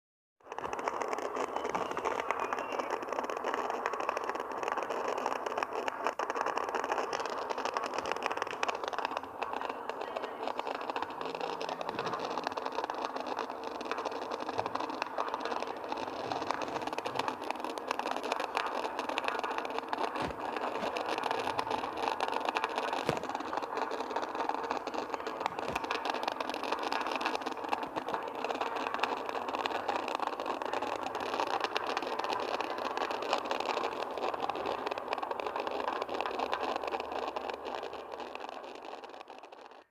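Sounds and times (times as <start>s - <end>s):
fireworks crackling: 0.4s - 39.9s.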